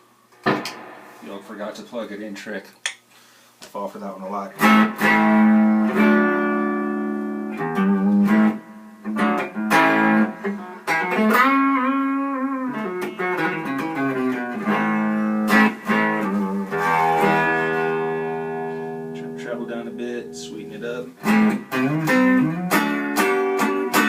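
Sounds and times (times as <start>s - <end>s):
electric guitar through tube amp: 4.6s - 24.0s.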